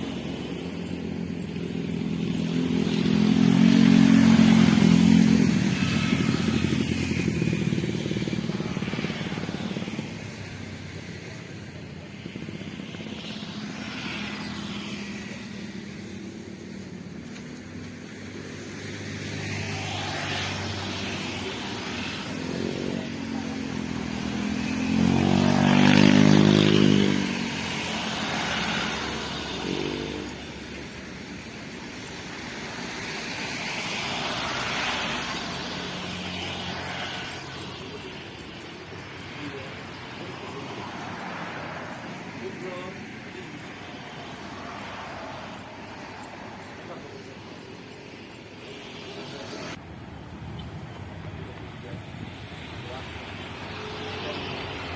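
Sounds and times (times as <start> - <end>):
distant traffic hum: 0.0 - 54.9
vehicles passing close by: 0.0 - 54.9.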